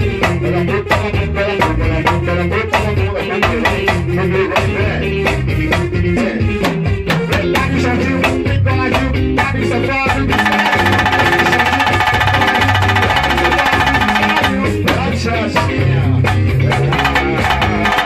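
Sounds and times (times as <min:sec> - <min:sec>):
live band music: 0:00.0 - 0:18.0.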